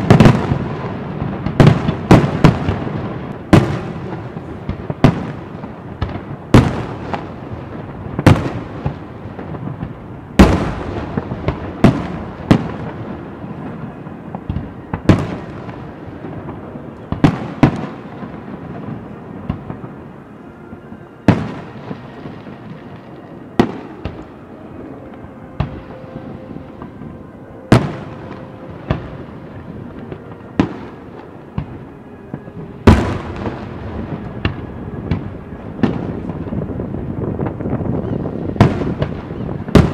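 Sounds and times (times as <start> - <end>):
continuous fireworks rumble: 0.0 - 39.9.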